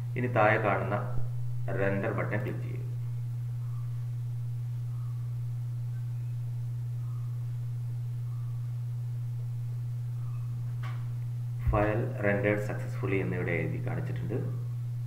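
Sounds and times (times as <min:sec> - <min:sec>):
low-pitched hum: 0:00.0 - 0:15.0.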